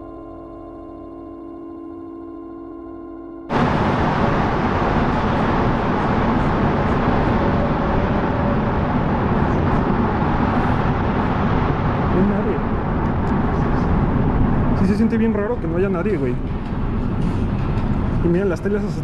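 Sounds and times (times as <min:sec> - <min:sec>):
metro station rumble: 0:03.5 - 0:19.0.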